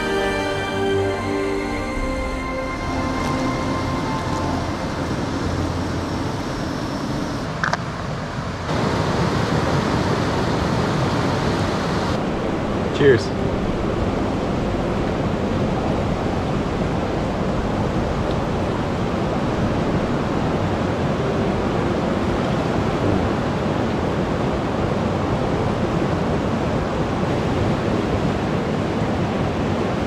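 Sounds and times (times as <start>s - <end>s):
river rushing over rapids: 0.0s - 30.0s.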